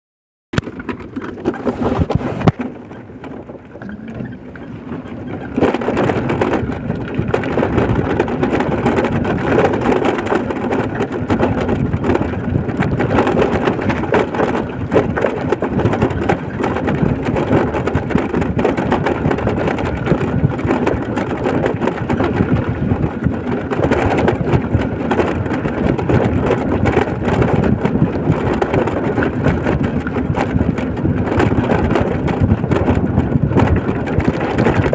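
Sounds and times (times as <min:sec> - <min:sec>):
vehicle engine and tyre noise: 0:00.6 - 0:34.9.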